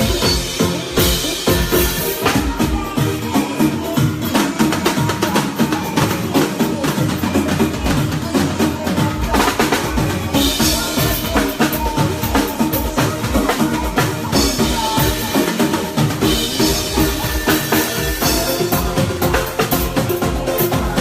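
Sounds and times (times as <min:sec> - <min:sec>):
drum kit beat: 0:00.0 - 0:21.0
live band playing: 0:00.0 - 0:21.0.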